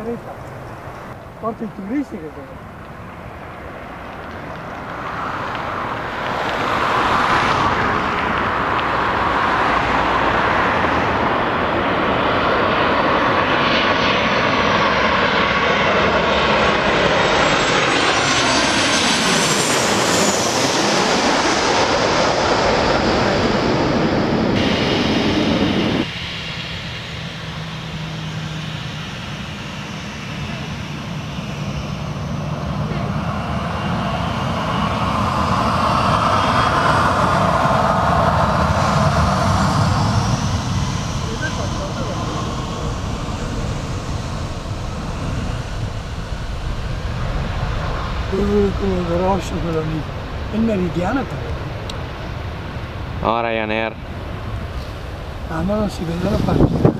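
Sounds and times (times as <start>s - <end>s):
jet engine hum taxiing: 0.0s - 56.9s
jet engines passing overhead: 0.0s - 56.9s.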